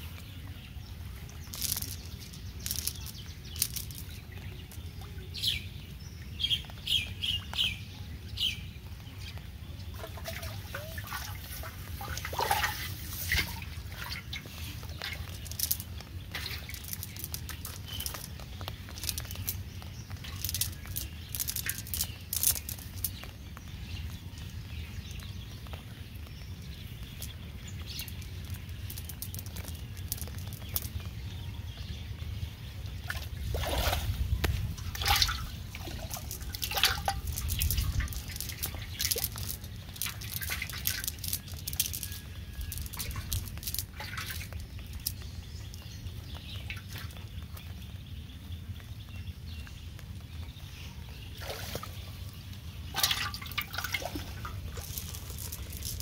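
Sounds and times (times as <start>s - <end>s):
net and grass rustling: 0.0s - 7.7s, 9.0s - 48.2s, 51.2s - 56.0s
water dripping and trickling: 0.0s - 56.0s.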